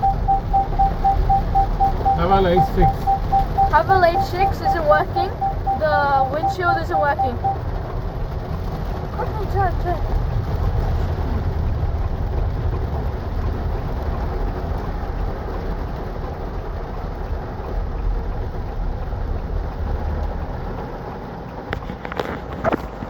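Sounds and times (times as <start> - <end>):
car interior road rumble: 0.0 - 23.0
tyres on wet road: 0.0 - 23.0.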